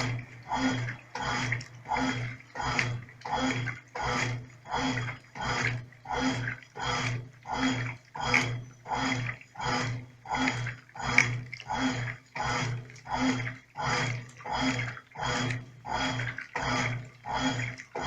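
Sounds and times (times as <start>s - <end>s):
washing machine agitator swishing water: 0.0s - 18.0s
washing machine motor humming: 0.0s - 18.0s.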